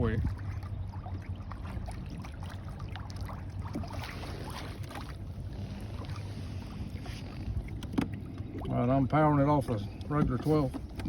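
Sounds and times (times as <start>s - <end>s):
trolling motor hum: 0.0s - 11.0s
water splashing against hull: 0.0s - 11.0s.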